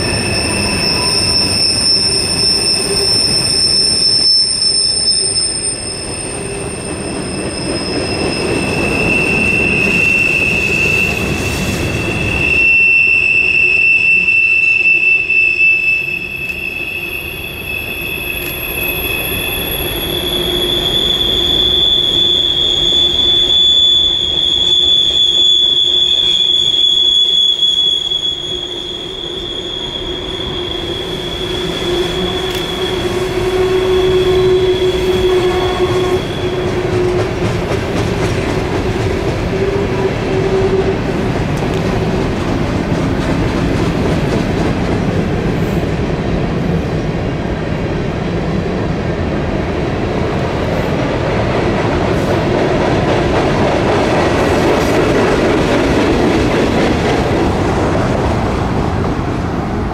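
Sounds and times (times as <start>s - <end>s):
train wheels squealing on rail: 0.0s - 48.1s, 50.0s - 59.9s
rumble of train cars: 0.0s - 59.9s.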